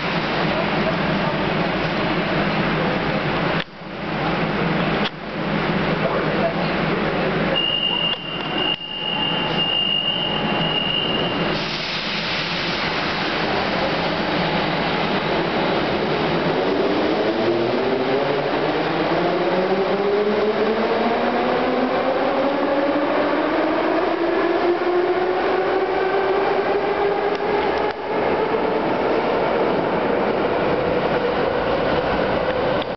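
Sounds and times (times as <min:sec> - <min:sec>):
train cars rumbling and hissing: 0:00.0 - 0:32.9.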